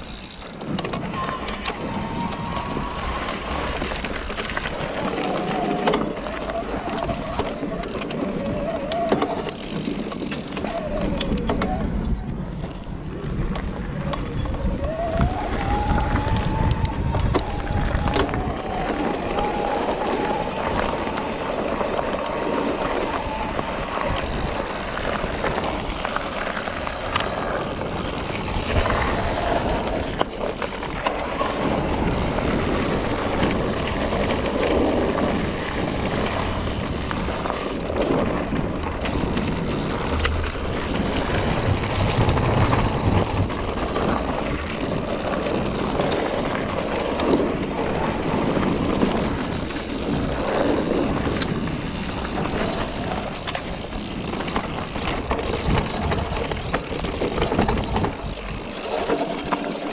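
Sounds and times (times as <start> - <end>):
bike rattling and knocking: 0.0 - 59.9
bike tyres rolling on dirt: 0.0 - 59.9
wind on microphone: 0.0 - 59.9.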